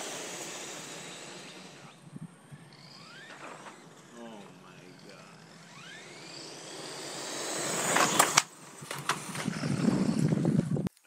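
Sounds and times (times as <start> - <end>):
tires on pavement: 0.0 - 10.9
toy truck motor whine: 0.0 - 10.9.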